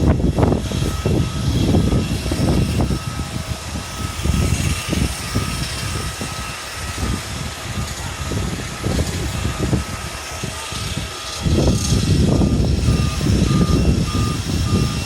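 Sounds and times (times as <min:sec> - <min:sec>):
jet engines whining: 0:00.0 - 0:15.0
wind buffeting microphone: 0:00.0 - 0:15.0.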